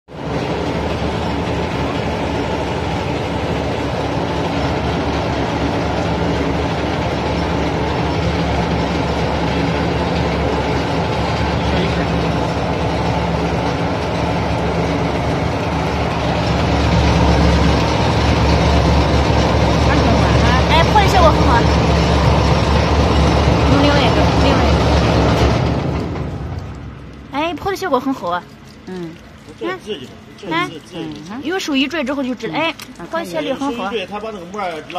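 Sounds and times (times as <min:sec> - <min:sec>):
motor hum: 0:00.1 - 0:34.9
water spraying and splashing: 0:00.1 - 0:34.9.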